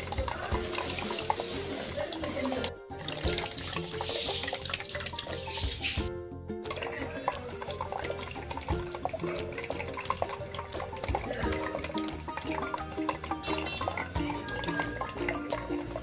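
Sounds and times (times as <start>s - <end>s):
fountain water trickling: 0.0s - 6.1s, 6.7s - 16.0s
background music: 0.0s - 16.0s.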